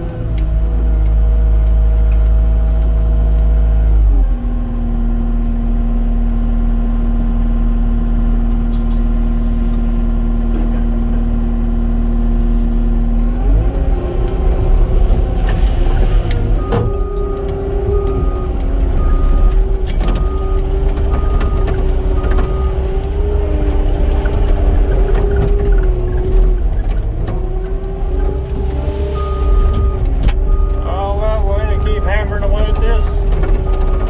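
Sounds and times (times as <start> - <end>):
construction machine diesel engine: 0.0 - 34.0.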